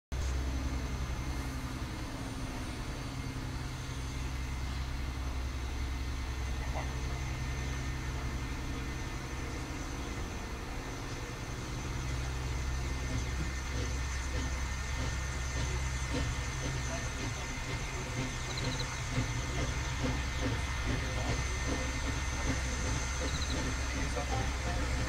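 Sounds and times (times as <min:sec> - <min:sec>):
low machine hum: 0:00.1 - 0:25.0.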